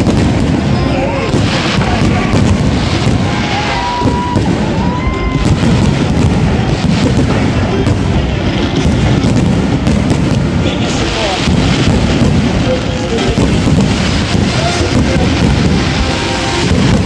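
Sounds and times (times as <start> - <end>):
firework whistling tones: 0.0 - 17.0
fireworks crackling and booming: 0.0 - 17.0.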